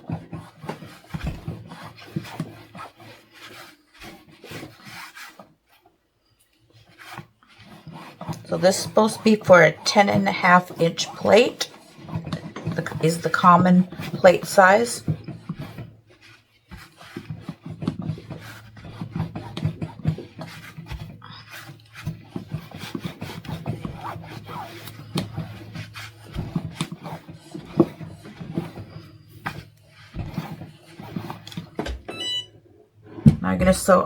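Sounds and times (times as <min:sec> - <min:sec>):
fabric rustling and rubbing: 0:00.0 - 0:31.9.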